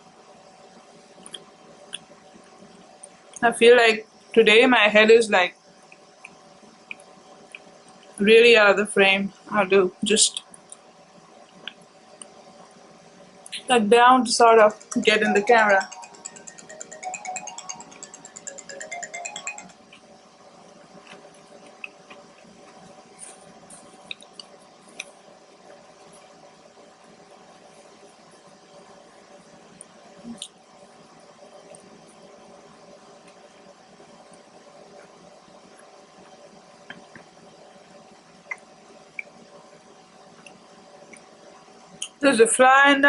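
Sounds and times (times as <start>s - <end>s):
faint room hum: 0.0s - 43.0s.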